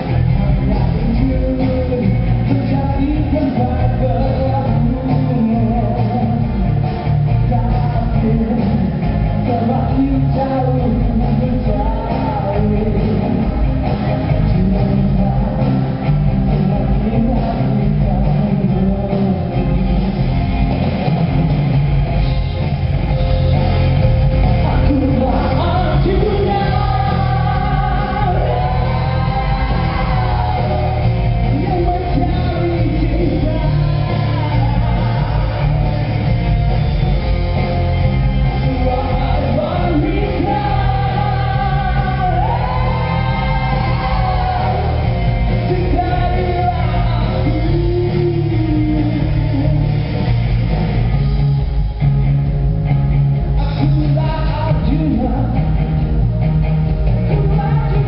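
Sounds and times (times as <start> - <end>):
person singing: 0.0 - 21.4, 22.2 - 36.7, 38.2 - 50.4, 53.5 - 56.1, 57.2 - 58.0
live band playing: 0.0 - 58.0.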